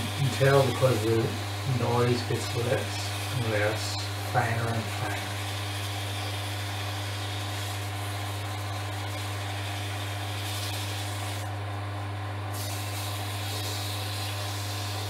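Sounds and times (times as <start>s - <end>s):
sandpaper hissing on spinning wood: 0.0s - 11.5s, 12.5s - 15.0s
lathe motor humming: 0.0s - 12.2s.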